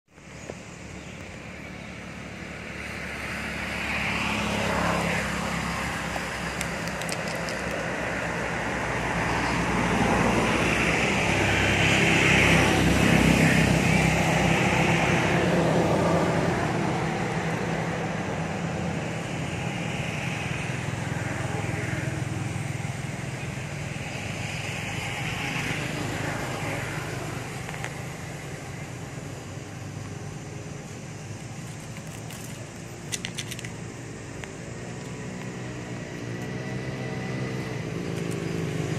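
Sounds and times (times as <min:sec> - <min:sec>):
distant engine drone: 0:00.1 - 0:38.9.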